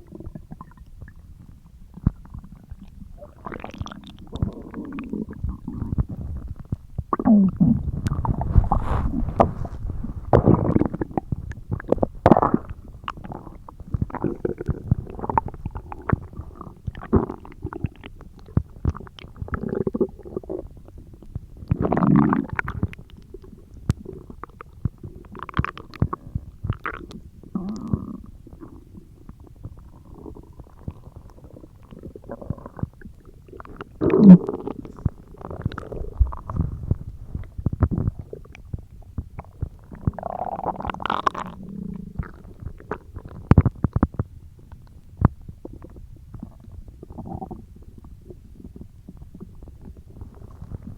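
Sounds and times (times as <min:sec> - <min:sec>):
stomach growling and gurgling: 0:00.0 - 0:50.9.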